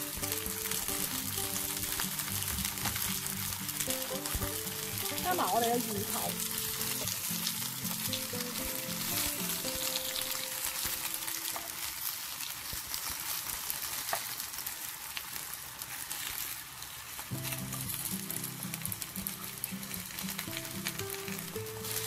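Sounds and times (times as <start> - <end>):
hot oil sizzling and popping: 0.0 - 22.0.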